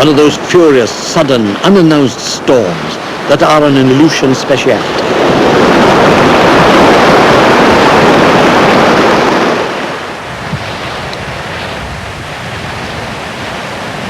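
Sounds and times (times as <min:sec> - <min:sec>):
storm wind: 0:00.0 - 0:14.0
surf rushing: 0:00.0 - 0:14.0.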